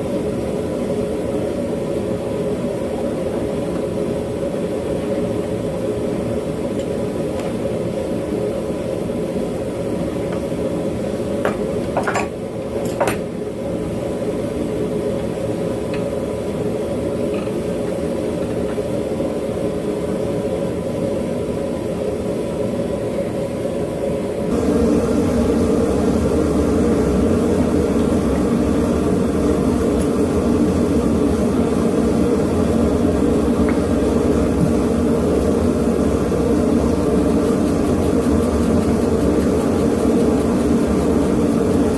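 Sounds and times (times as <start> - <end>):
forge burner roaring: 0.0 - 41.9.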